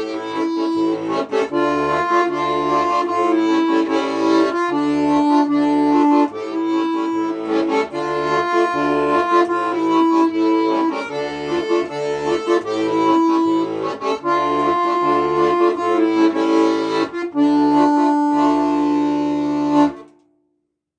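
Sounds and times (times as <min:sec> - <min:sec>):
accordion playing a tune: 0:00.0 - 0:20.3.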